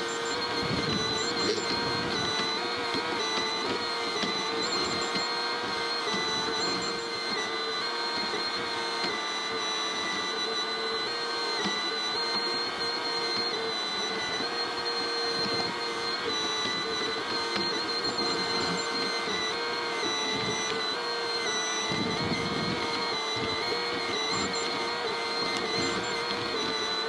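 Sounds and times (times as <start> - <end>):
excavator diesel engine running: 0.0 - 27.0
steady whine: 0.0 - 27.0.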